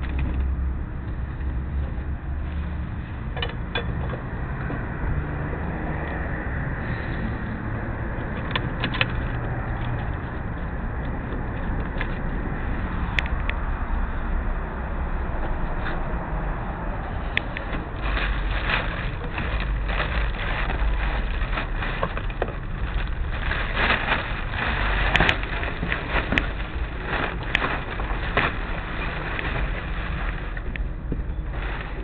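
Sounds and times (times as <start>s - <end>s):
street noise: 0.0s - 32.0s
wind rumble on microphone: 0.0s - 32.0s.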